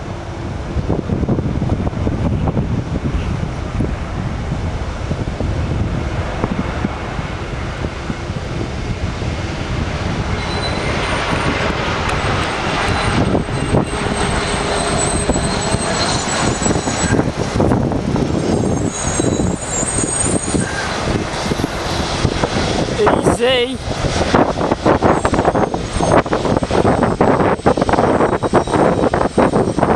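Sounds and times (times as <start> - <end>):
high engine whine: 0.0 - 29.9
jet engines rushing: 0.0 - 29.9.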